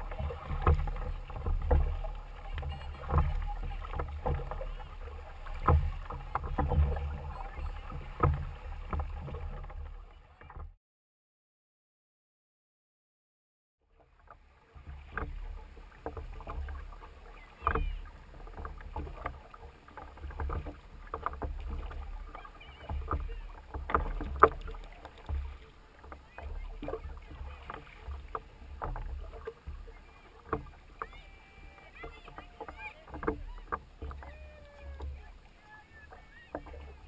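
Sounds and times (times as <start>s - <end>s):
oar blades splashing: 0.0s - 10.7s, 14.0s - 37.0s
oars knocking in oarlocks: 0.0s - 10.7s, 14.2s - 37.0s.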